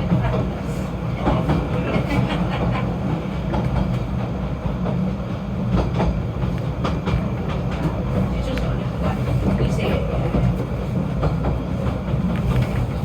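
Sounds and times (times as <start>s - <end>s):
train rumbling: 0.0s - 13.0s
wheels clicking on track: 0.0s - 13.0s.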